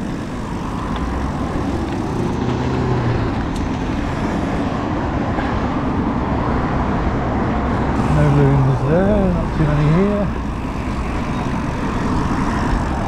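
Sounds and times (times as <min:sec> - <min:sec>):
bicycle road noise: 0:00.0 - 0:13.0
motor traffic hum: 0:00.0 - 0:13.0.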